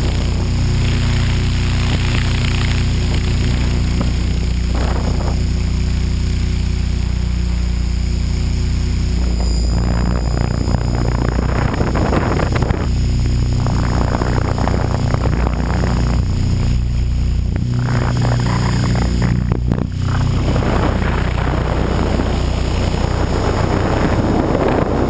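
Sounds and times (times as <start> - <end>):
helicopter rotor drone: 0.0 - 25.0
high whine: 0.0 - 25.0
wind noise over camera: 0.0 - 25.0.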